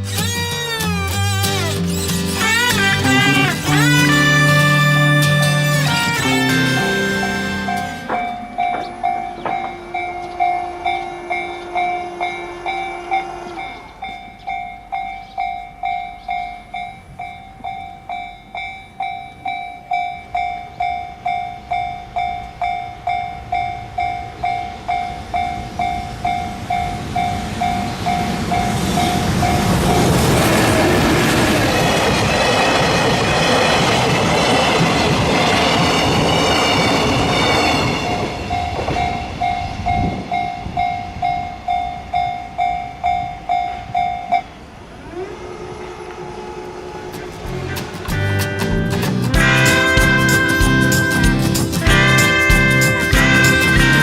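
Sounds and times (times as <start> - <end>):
freight train rumbling past: 0.0 - 54.0
level-crossing warning bell: 0.4 - 47.8, 49.4 - 54.0.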